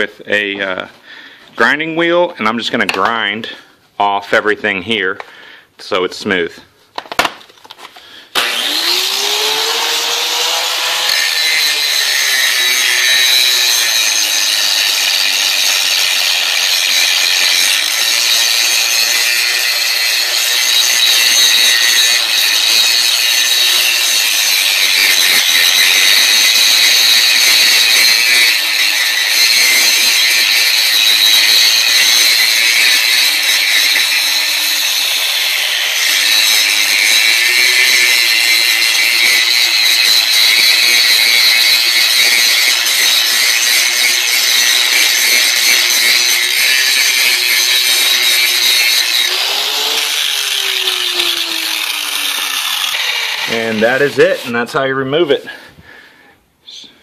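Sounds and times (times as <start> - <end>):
angle grinder grinding metal: 8.2 - 55.6.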